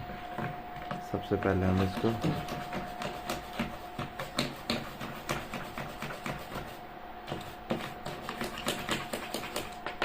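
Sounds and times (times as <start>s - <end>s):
faint steady whine: 0.0s - 10.0s
brush scrubbing circuit board: 1.5s - 9.7s.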